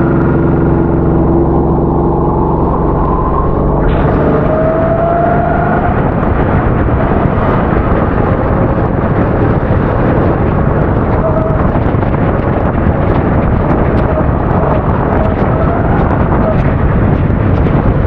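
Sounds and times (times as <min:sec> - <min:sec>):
kart engine running: 0:00.0 - 0:18.0
wind noise on microphone: 0:00.0 - 0:18.0.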